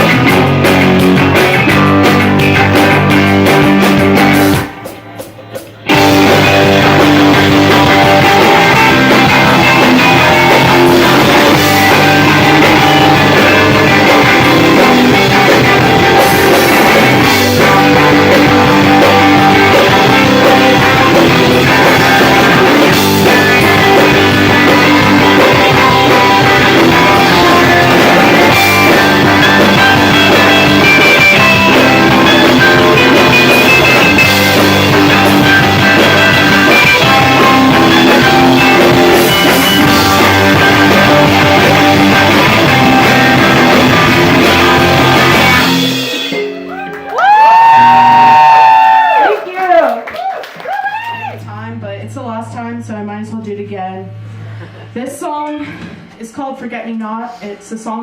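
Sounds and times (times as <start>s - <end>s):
live rock band playing: 0.0s - 49.1s.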